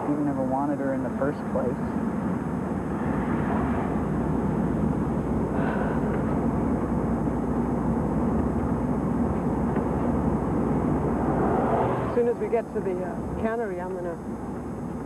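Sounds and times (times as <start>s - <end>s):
car engine and road noise: 0.0s - 15.0s
wind through open window: 0.0s - 15.0s.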